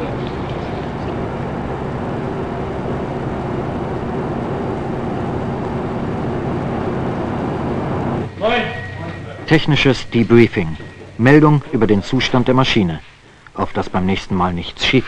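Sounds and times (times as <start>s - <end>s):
engine drone: 0.0s - 12.8s.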